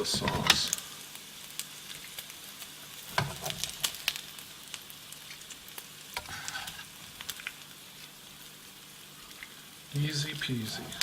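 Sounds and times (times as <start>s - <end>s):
chicken sizzling in a frying pan: 0.0s - 11.0s.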